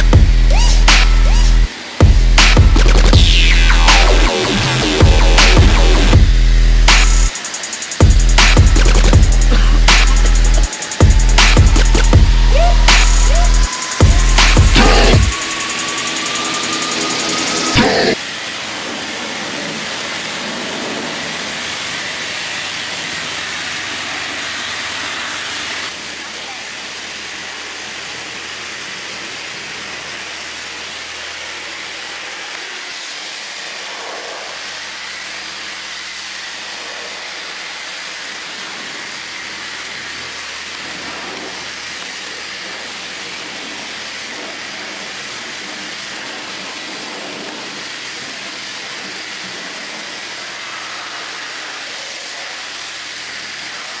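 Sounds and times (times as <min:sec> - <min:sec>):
high-pressure water spray hissing: 0:00.0 - 0:54.0.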